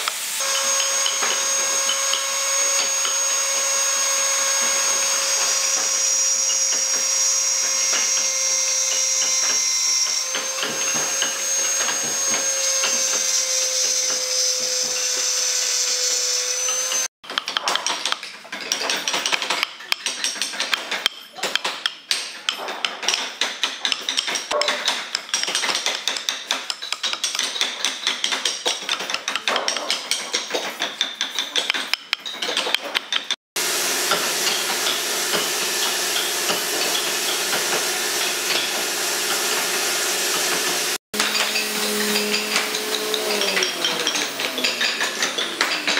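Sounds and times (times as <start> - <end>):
rotary tool grinding wood: 0.0 - 17.1, 22.3 - 45.9
hand chisel cutting wood: 0.1 - 18.2, 19.6 - 45.9.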